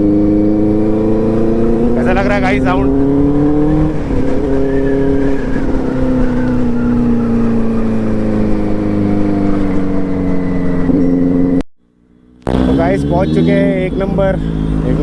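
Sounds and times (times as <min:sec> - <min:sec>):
motorcycle engine and exhaust running: 0:00.0 - 0:15.0.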